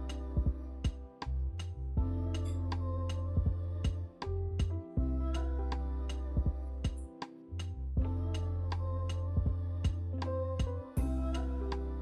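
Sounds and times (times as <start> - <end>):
bass and sustained notes: 0.0 - 12.0.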